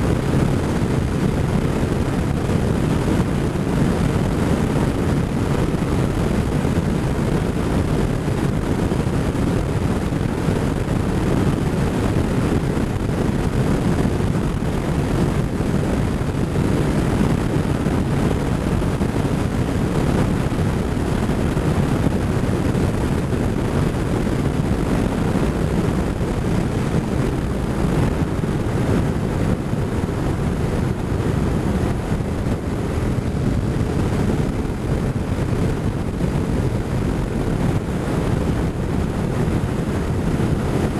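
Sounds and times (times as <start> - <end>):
motorcycle engine: 0.0 - 40.9
wind noise over microphone: 0.0 - 40.9.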